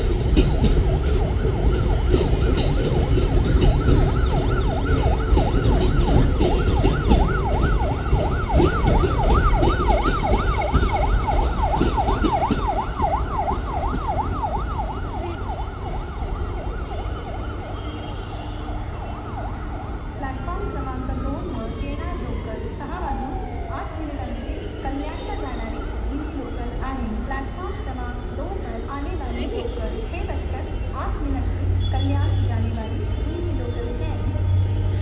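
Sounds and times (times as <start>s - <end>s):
train wheels rumbling and rattling: 0.0s - 35.0s.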